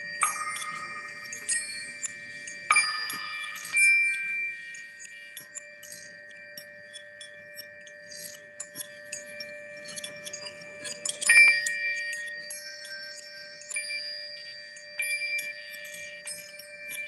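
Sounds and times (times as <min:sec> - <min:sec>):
light chime clinks: 0:00.0 - 0:17.0
metallic chimes ringing: 0:00.0 - 0:17.0.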